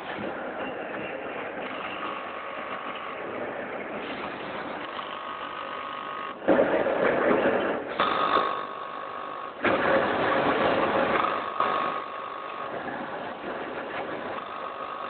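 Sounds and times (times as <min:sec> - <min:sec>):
packing machine running with whine: 0:00.0 - 0:15.0.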